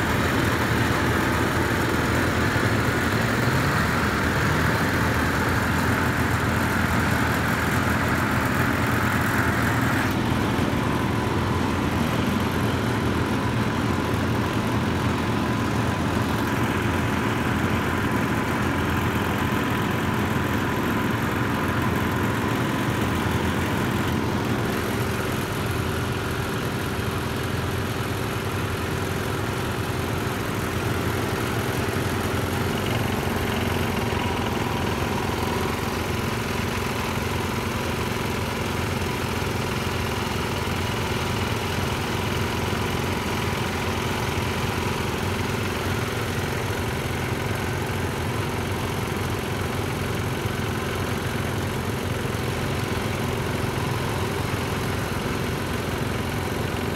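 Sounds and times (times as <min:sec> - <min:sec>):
small tractor engines droning: 0:00.0 - 0:56.9.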